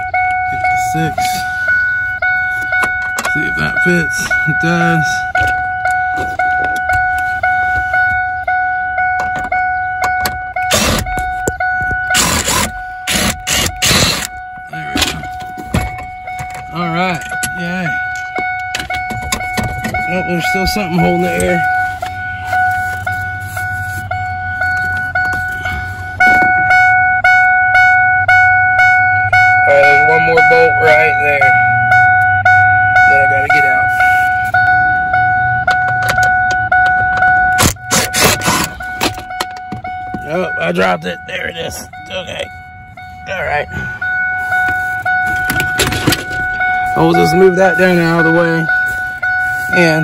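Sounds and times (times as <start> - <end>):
car warning chime dinging: 0.0 - 50.0.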